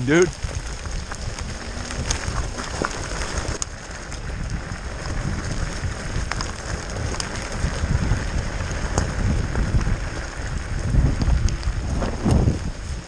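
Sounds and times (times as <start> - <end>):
sharp hail ticks: 0.0 - 12.6
rain pattering: 0.0 - 13.0
wind buffeting microphone: 0.0 - 13.0.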